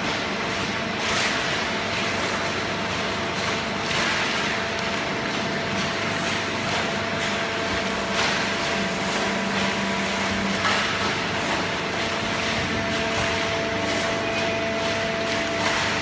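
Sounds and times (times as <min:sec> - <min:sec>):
baler machine humming: 0:00.0 - 0:16.0.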